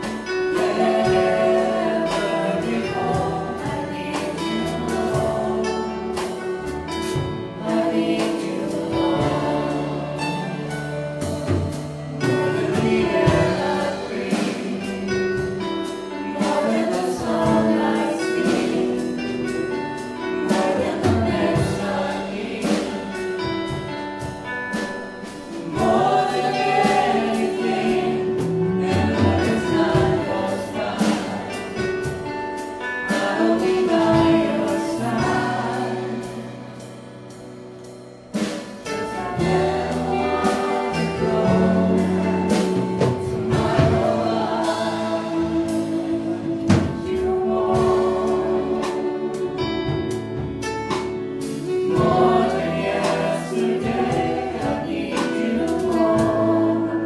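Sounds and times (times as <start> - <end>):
singers in unison: 0.0 - 23.9, 24.7 - 36.9, 38.3 - 50.5, 51.3 - 57.0
worship band playing: 0.0 - 57.0.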